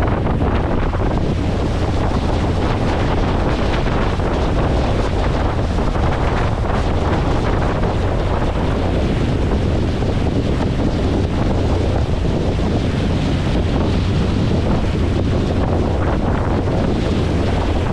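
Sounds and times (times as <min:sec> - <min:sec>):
water wash under boat: 0:00.0 - 0:17.9
wind rushing over microphone: 0:00.0 - 0:17.9.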